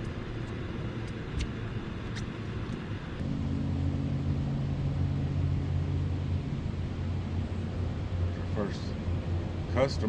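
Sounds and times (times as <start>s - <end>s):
boat motor humming: 0.0s - 8.4s.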